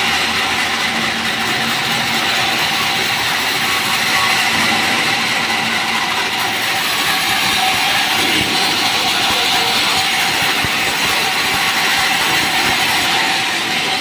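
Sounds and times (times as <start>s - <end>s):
band saw running: 0.0s - 14.0s.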